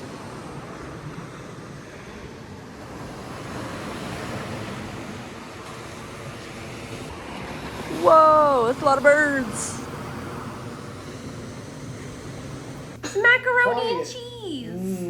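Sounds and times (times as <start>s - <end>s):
ocean waves breaking: 0.0s - 14.6s.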